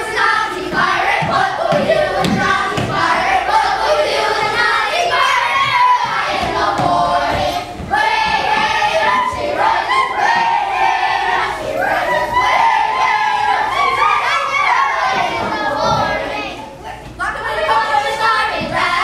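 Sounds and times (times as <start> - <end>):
children singing and shouting: 0.0 - 19.0.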